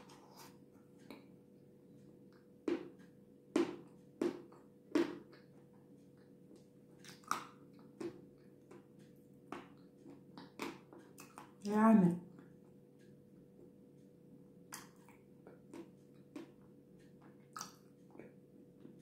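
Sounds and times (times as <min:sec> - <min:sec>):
chewing soft cake: 0:00.0 - 0:19.0.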